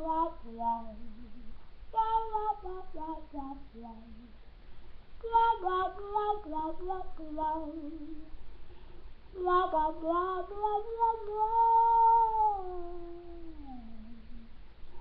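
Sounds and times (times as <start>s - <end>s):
woman singing wordless melody: 0.0s - 4.5s, 5.2s - 8.4s, 9.3s - 14.6s.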